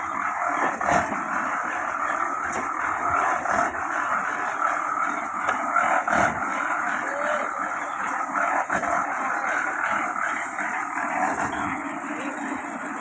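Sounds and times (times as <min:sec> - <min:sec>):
construction work din: 0:00.0 - 0:13.0.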